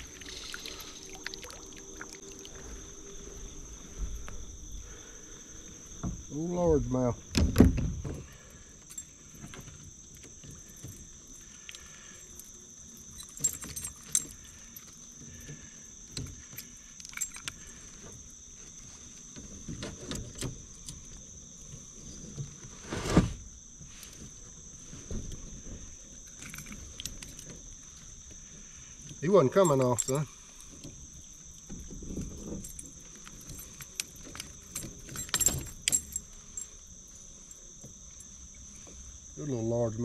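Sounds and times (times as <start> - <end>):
fish and tackle rattling: 0.0 - 5.1, 5.7 - 22.2, 25.6 - 39.0
insects droning: 0.0 - 40.0.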